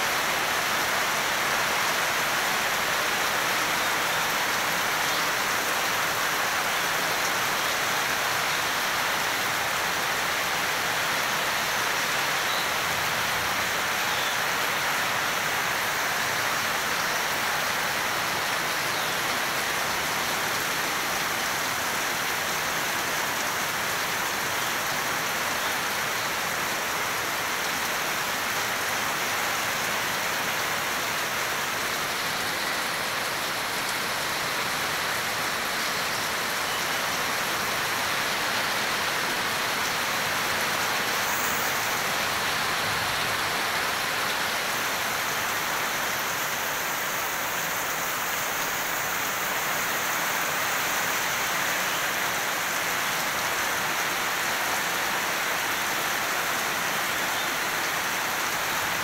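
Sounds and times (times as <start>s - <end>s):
heavy rain on leaves and netting: 0.0s - 59.0s.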